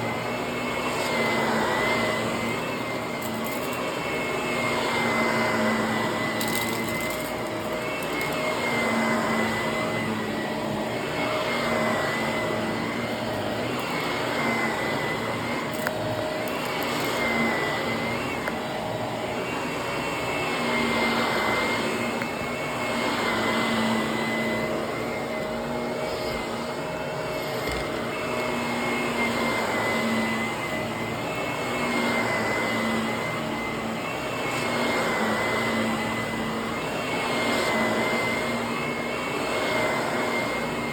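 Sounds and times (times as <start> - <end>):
vacuum cleaner on carpet: 0.0 - 40.9.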